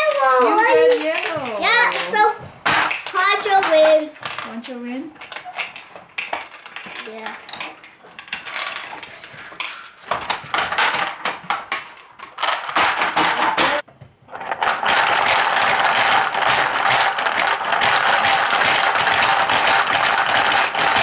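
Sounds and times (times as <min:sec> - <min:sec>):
marbles rattling: 0:00.0 - 0:21.0
plastic hippo heads clacking: 0:00.9 - 0:21.0.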